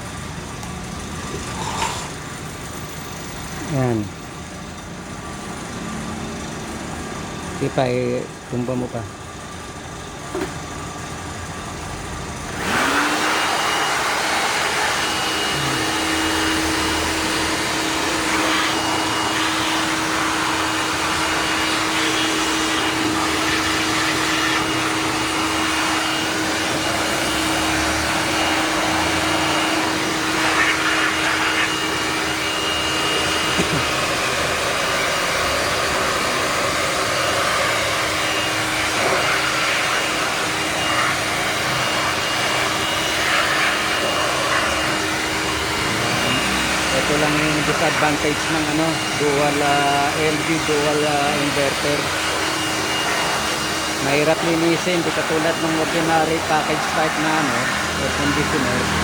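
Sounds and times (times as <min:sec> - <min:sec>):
electric air blower running: 0:00.0 - 0:59.0.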